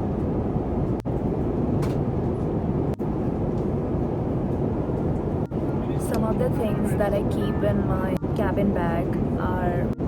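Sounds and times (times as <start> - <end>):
jet airliner cabin noise: 0.0 - 10.0.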